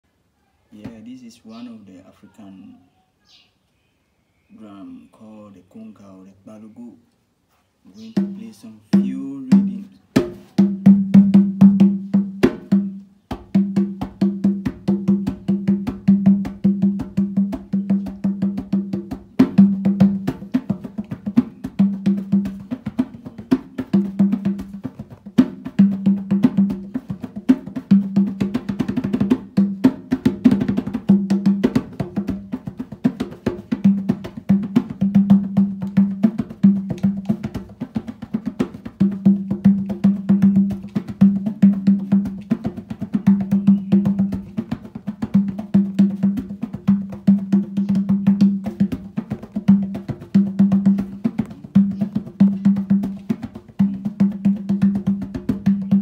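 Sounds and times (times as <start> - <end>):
hand drum played fast: 8.2 - 56.0.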